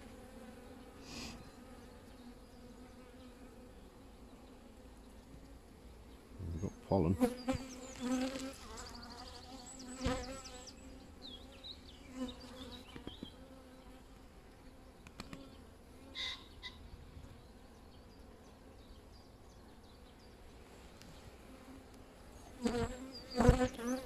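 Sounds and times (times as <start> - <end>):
honeybees buzzing: 0.0 - 16.6, 19.9 - 24.0.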